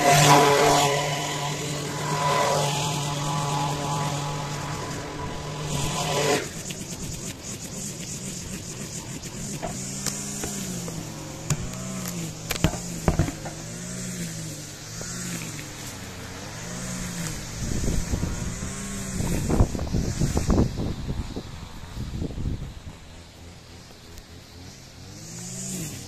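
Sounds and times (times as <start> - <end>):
crackling rustle of hedge: 0.0 - 26.0
low engine-like hum: 0.0 - 26.0.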